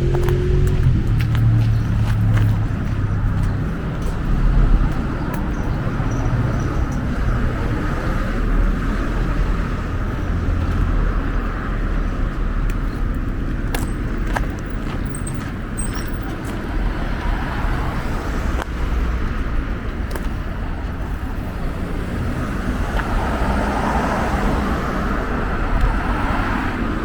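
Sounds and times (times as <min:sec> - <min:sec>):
cars passing: 0:00.0 - 0:27.0.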